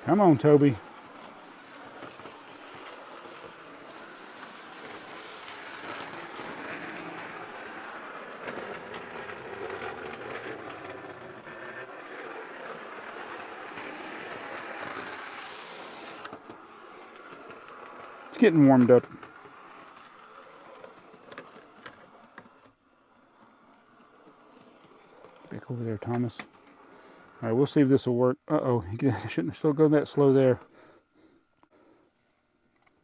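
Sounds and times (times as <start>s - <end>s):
model train motor whirring: 0.0s - 28.0s
wheels clicking on rails: 0.0s - 28.0s.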